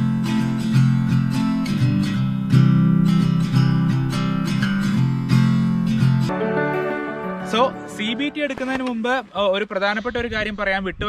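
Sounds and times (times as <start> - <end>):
acoustic guitar strumming: 0.0 - 9.4.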